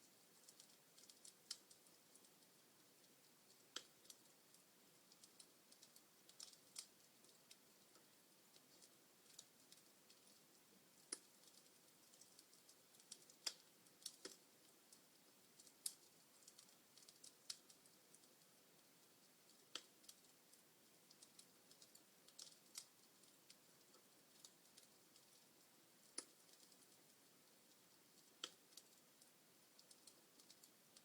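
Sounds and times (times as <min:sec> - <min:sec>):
burning logs crackling: 0:00.0 - 0:31.0
faint steady hiss: 0:00.0 - 0:31.0.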